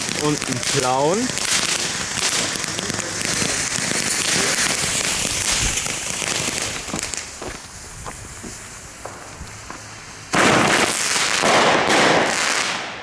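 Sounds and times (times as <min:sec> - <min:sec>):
firework fuses hissing and sparking: 0:00.0 - 0:13.0.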